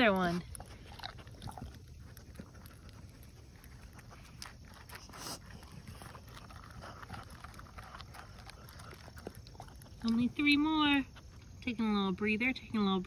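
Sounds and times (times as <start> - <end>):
dog sniffing: 0.0 - 11.6.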